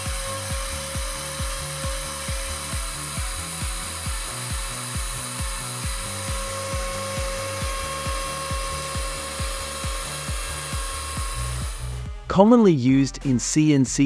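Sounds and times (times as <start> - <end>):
router spindle carving wood: 0.0 - 12.1
background music with thumping beat: 0.0 - 14.0.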